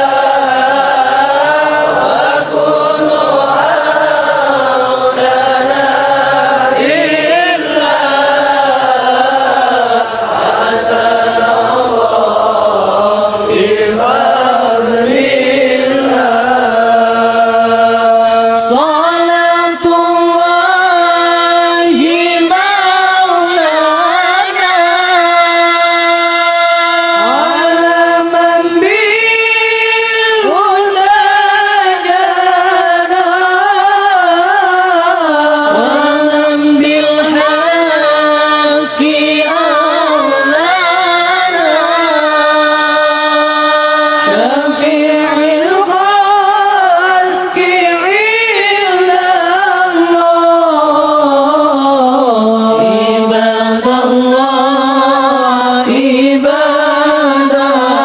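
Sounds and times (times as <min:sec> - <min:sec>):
solo voice chanting: 0:00.0 - 0:58.0.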